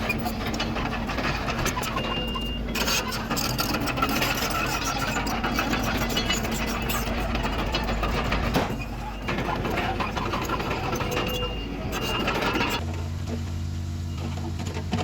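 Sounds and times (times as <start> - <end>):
rapid rattling clatter: 0.0 - 12.8
bulldozer diesel engine running: 0.0 - 15.0.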